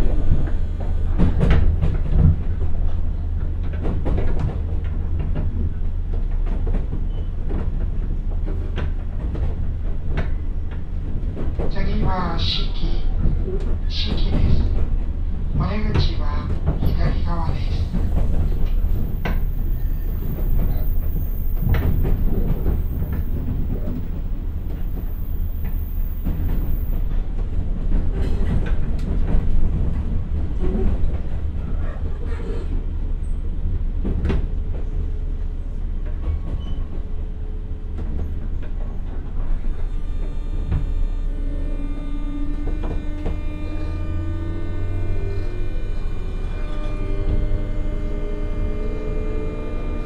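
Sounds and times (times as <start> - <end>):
train wheels rumbling: 0.0 - 50.0.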